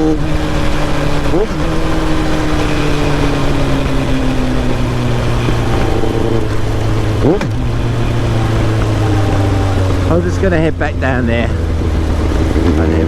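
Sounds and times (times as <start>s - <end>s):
motorcycle engine running: 0.0s - 13.0s
rushing wind noise: 0.0s - 13.0s.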